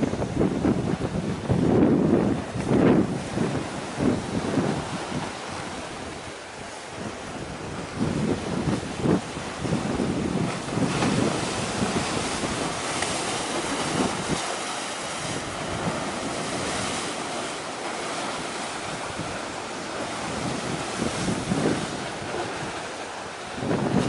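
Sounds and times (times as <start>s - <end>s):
sea waves: 0.0s - 24.0s
wind gusting on microphone: 0.0s - 24.0s.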